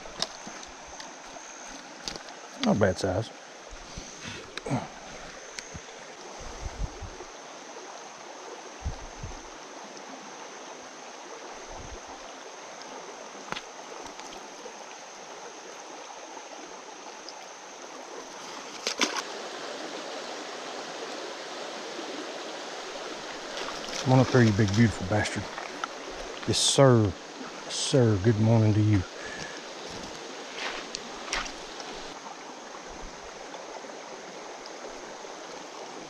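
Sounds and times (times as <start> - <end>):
creek water rushing over stones: 0.0 - 36.0.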